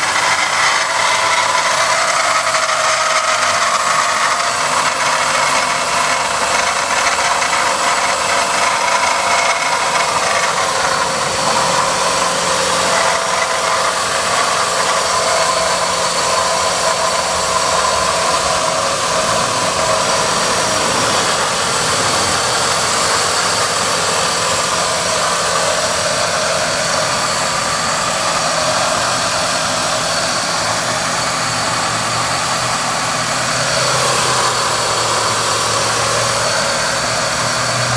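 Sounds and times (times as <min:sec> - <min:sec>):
car engine idling with rattle: 0:00.0 - 0:37.9.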